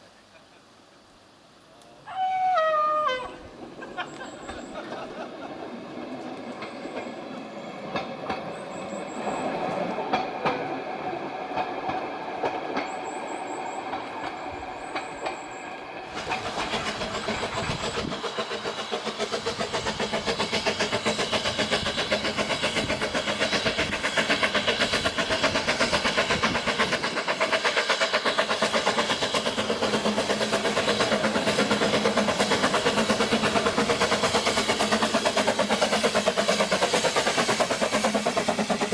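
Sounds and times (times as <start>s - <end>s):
steam train running: 0.0s - 38.9s.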